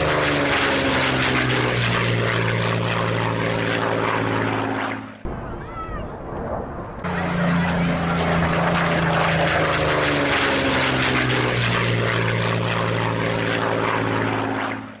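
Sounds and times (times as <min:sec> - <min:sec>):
propeller aircraft engine droning: 0:00.0 - 0:15.0.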